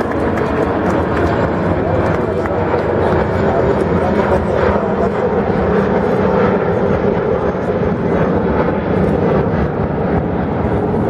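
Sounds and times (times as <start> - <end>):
jet airliner engines at takeoff: 0.0 - 11.0.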